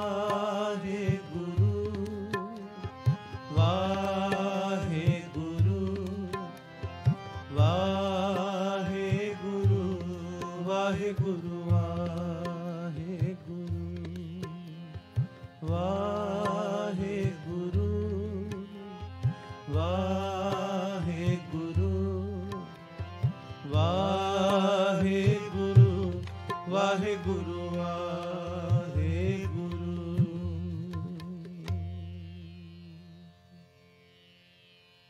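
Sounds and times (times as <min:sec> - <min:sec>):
wordless singing: 0:00.0 - 0:14.9, 0:15.6 - 0:22.7, 0:23.6 - 0:31.7
tabla drumming: 0:00.0 - 0:32.2
harmonium: 0:00.0 - 0:35.0.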